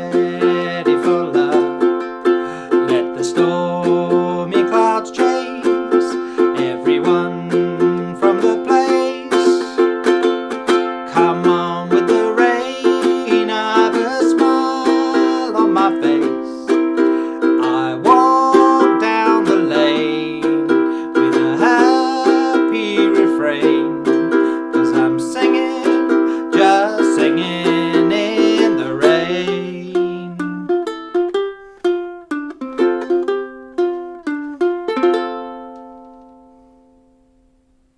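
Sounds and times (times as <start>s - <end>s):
man singing: 0.0s - 31.0s
ukulele playing: 0.0s - 37.8s.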